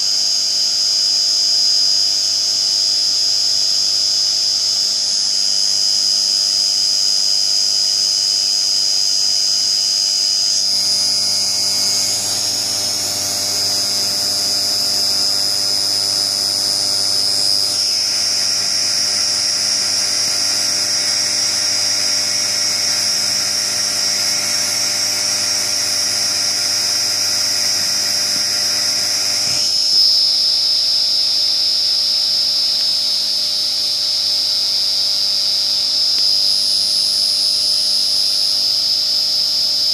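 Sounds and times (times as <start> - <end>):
mill spindle whine: 0.0 - 39.9.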